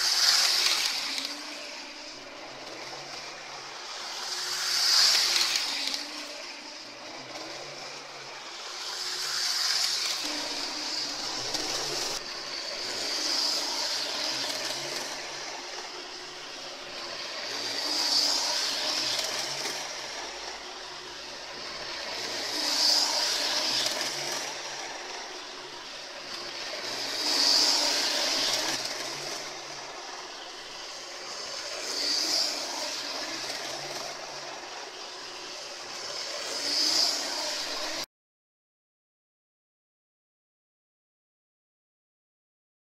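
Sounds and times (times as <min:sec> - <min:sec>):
wheels running on rails: 0:00.0 - 0:38.0
model train motor whirring: 0:00.0 - 0:38.1.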